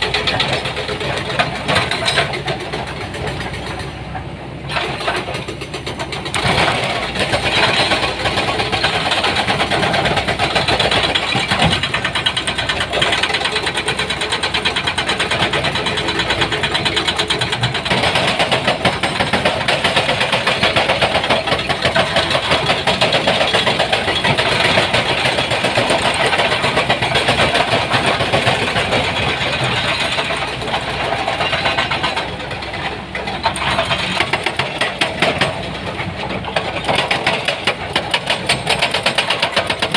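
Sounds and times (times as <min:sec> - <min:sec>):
excavator diesel engine pulsing: 0:00.0 - 0:39.9.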